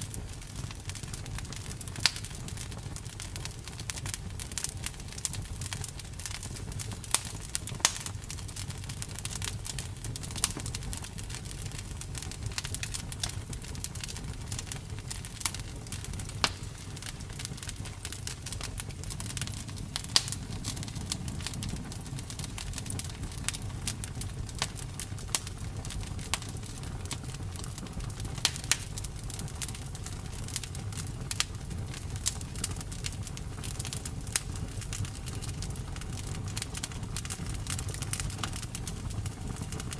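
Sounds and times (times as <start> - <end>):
campfire rumble: 0.0 - 39.9
wood crackling and popping: 0.0 - 39.9.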